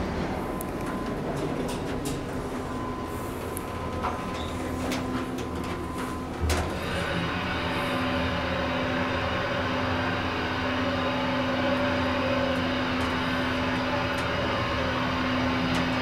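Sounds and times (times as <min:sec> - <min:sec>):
elevator hum and rumble: 0:00.0 - 0:16.0.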